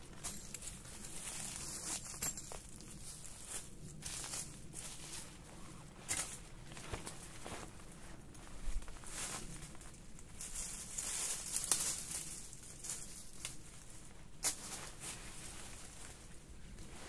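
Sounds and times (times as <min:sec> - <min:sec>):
tarp and leaves rustling: 0:00.0 - 0:17.0.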